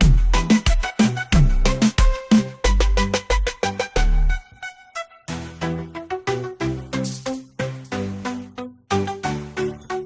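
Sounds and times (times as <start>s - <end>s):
electronic music with bass: 0.0s - 10.0s.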